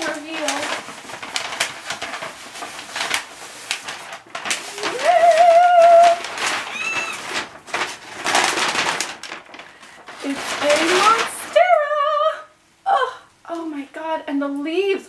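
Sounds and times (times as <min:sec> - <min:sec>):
paper wrapping crinkling: 0:00.0 - 0:12.4.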